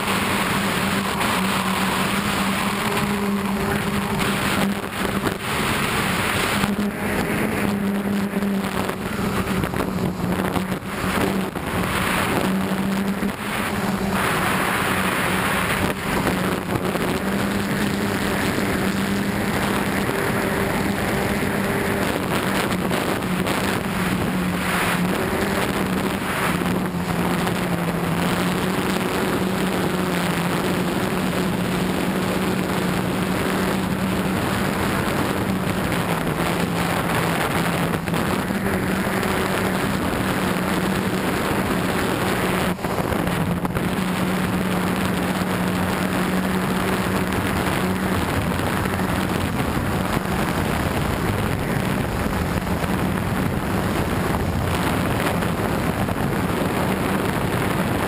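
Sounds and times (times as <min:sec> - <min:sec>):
drone motors humming: 0:00.0 - 0:58.0
wind on the microphone: 0:00.0 - 0:58.0.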